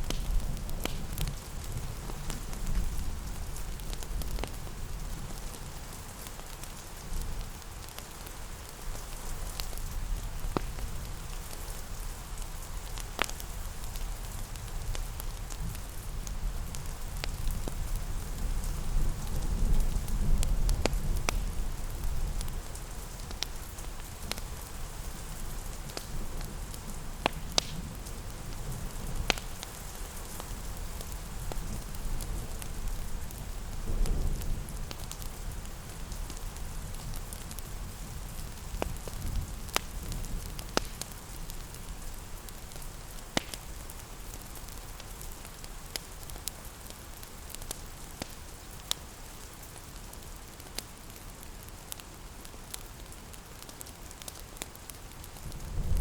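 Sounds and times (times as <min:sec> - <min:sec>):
fireplace crackling and popping: 0:00.0 - 0:56.0
rain pattering: 0:00.0 - 0:56.0.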